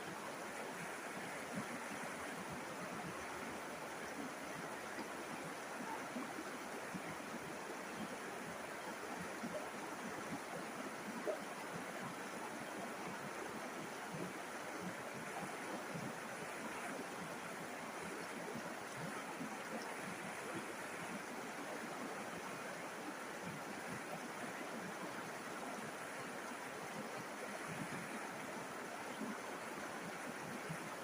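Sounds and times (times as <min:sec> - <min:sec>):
river water flowing: 0:00.0 - 0:31.0.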